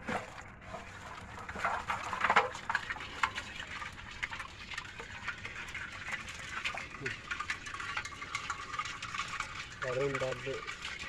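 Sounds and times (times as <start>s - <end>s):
fish flapping and splashing: 0.0s - 11.0s.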